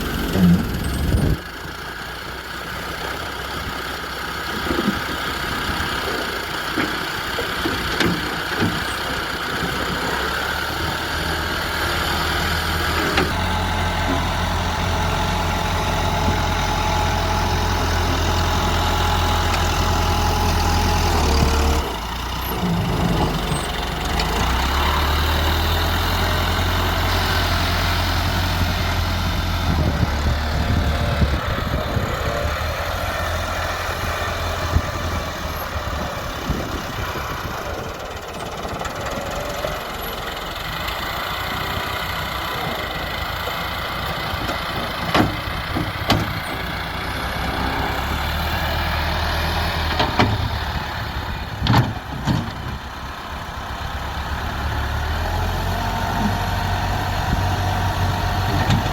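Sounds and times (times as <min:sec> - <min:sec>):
diesel engines running: 0:00.0 - 0:58.9.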